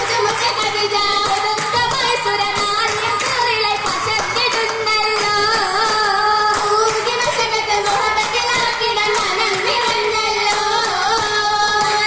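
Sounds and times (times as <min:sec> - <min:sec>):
girls singing in chorus: 0:00.0 - 0:12.0
rhythmic hand-clapping: 0:00.0 - 0:12.0.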